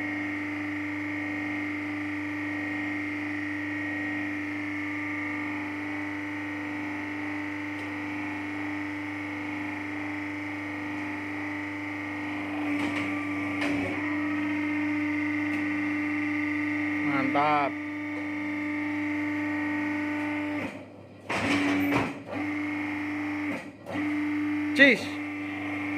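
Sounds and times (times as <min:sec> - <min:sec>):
hydraulic machine humming: 0:00.0 - 0:25.9.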